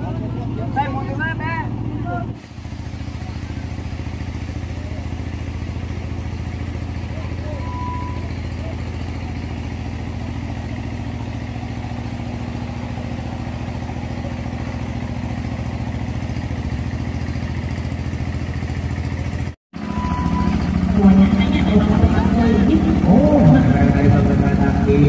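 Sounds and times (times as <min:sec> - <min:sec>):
small engine idling: 0:00.0 - 0:25.0.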